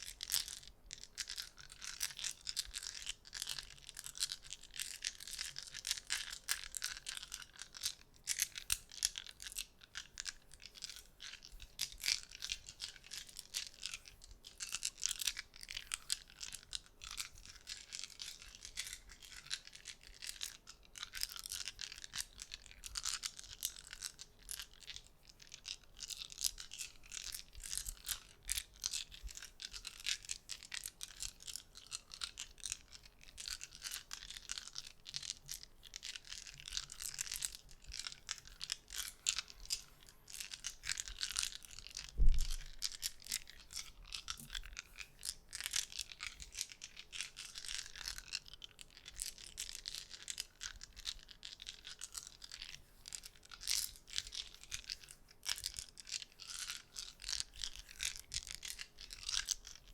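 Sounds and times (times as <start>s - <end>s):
small objects clicking and crackling: 0.0s - 59.9s.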